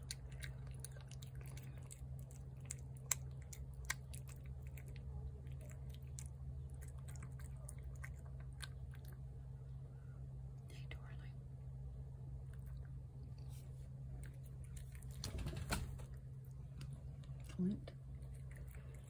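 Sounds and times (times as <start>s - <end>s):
cat chewing and lapping: 0.0s - 9.6s, 12.4s - 15.3s, 16.1s - 19.0s
low hum: 0.0s - 19.0s.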